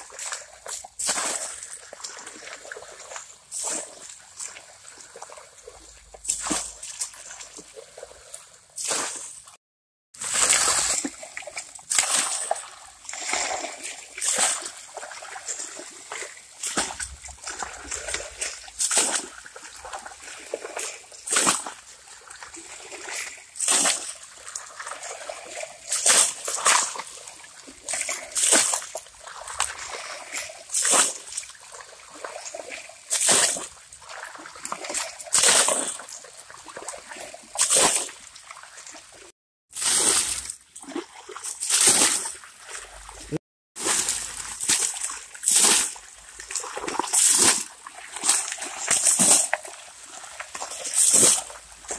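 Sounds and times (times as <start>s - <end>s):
water splashing onto gravel: 0.0s - 8.2s, 10.2s - 39.0s, 39.7s - 51.9s.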